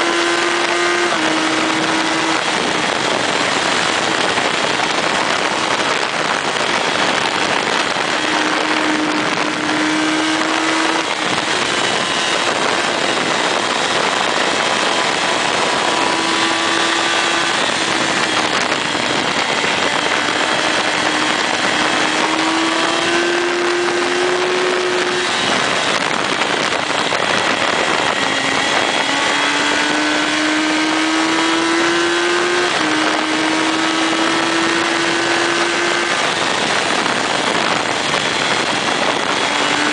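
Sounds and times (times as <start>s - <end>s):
motorcycle engine shifting gears: 0.0s - 39.9s
wind rushing over microphone: 0.0s - 39.9s.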